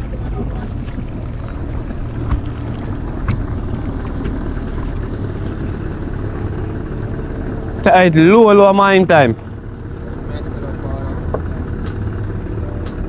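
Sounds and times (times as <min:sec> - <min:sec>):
boat motor and water rumble: 0:00.0 - 0:13.0.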